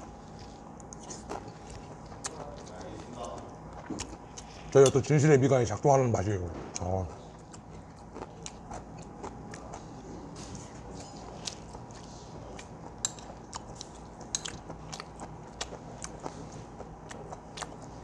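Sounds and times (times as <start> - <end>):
close-miked chewing: 0.3 - 5.0, 6.7 - 18.0.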